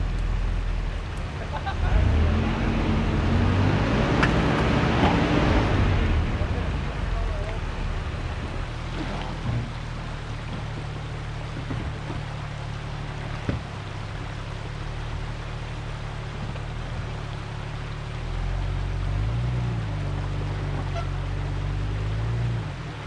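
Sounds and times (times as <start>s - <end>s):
truck engine idling and revving: 0.0s - 23.0s.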